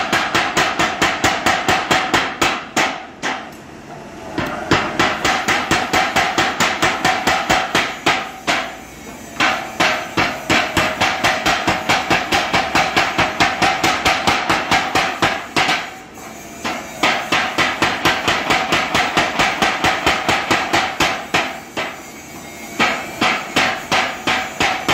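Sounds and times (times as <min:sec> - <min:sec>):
power hammer pounding steel: 0:00.0 - 0:03.5, 0:04.4 - 0:24.9.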